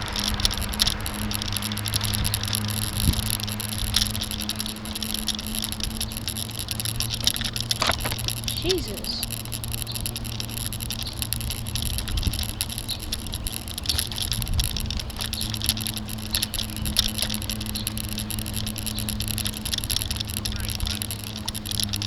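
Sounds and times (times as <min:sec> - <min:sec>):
camera rattling and clicking: 0:00.0 - 0:22.0.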